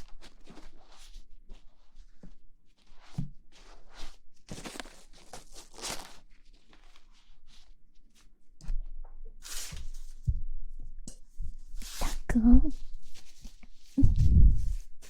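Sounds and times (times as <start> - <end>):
rustling and scraping at microphone: 0.0 - 15.0.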